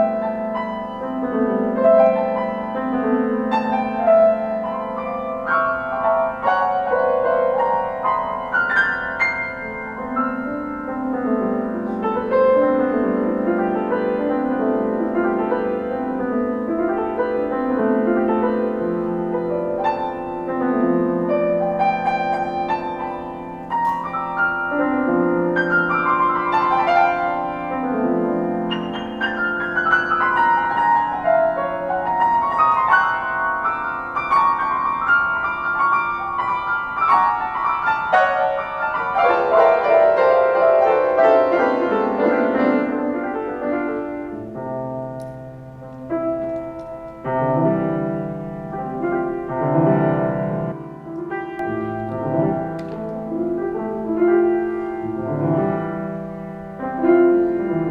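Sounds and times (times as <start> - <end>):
solo piano: 0.0 - 57.9.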